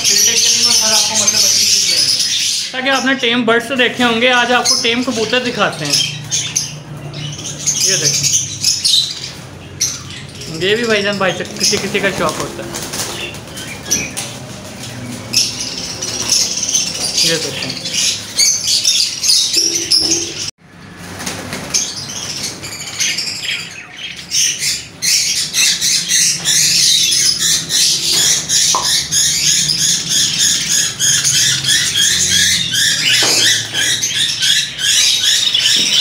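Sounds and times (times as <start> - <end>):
cage birds chirping and twittering: 0.0 - 36.0.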